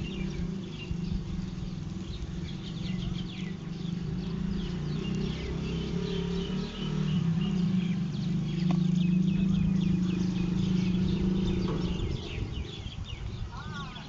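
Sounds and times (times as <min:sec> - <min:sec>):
low fluttering hum: 0:00.0 - 0:14.0
small birds chirping: 0:00.0 - 0:14.0.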